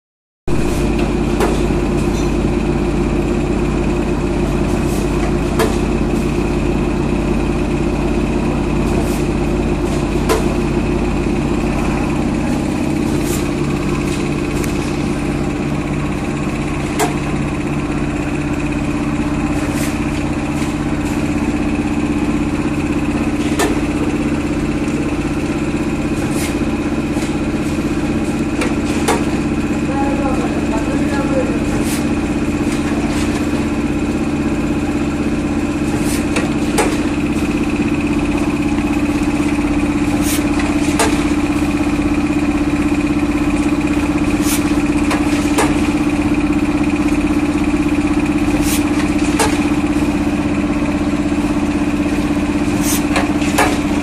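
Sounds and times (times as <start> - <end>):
machine motor hum: 0.5 - 54.0.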